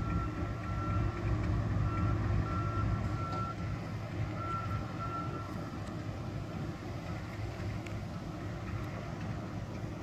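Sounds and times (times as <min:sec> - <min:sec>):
diesel locomotive engine rumble: 0:00.0 - 0:10.0.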